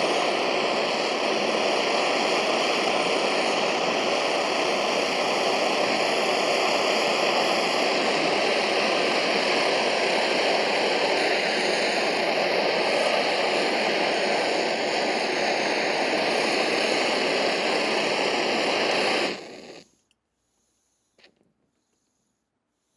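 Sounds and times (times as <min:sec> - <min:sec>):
gasoline burner rushing: 0:00.0 - 0:19.9.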